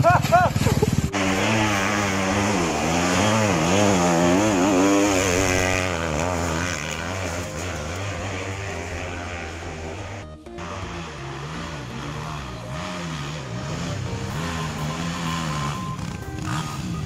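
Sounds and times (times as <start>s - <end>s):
dirt bike engine revving: 0.2s - 17.0s.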